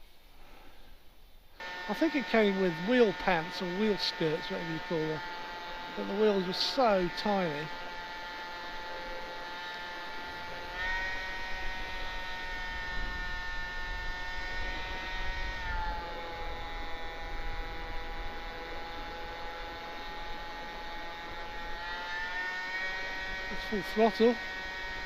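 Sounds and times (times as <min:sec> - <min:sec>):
model plane motor whining: 0:01.6 - 0:25.0.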